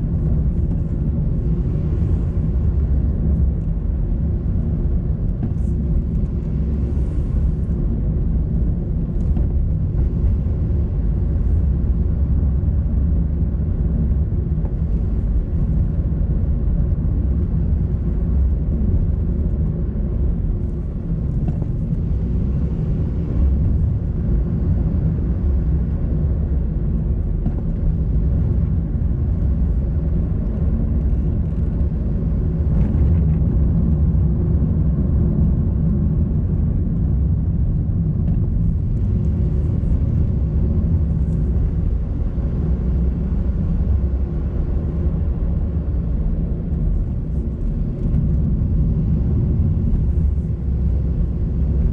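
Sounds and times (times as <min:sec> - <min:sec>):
car engine and tyre rumble: 0:00.0 - 0:51.9.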